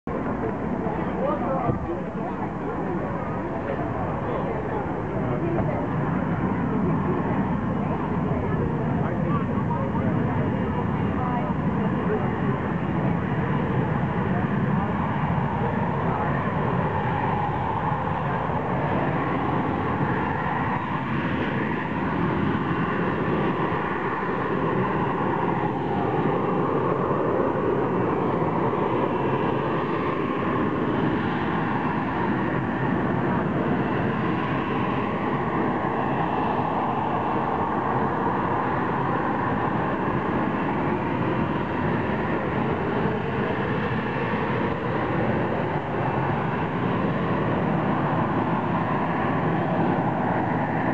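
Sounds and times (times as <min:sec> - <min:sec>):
jet engine hovering: 0:00.1 - 0:50.9.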